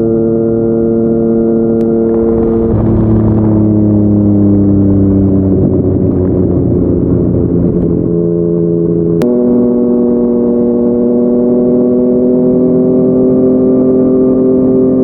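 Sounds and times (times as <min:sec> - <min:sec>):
motorcycle engine riding: 0:01.8 - 0:15.0.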